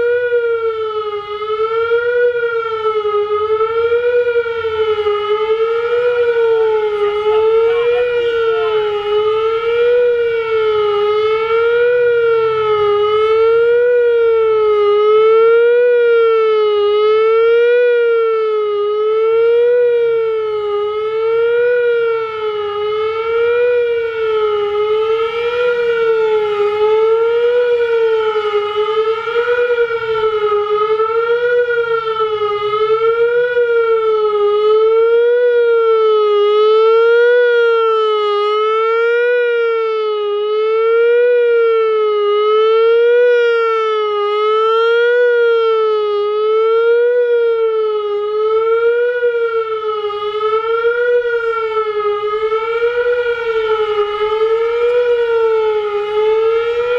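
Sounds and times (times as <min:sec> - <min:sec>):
warning siren wailing: 0:00.0 - 0:56.9.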